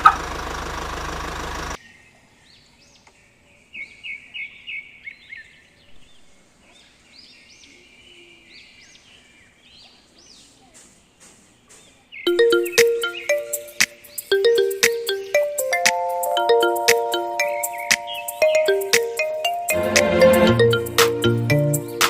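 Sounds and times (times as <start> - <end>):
birds singing and chirping: 1.9 - 19.6.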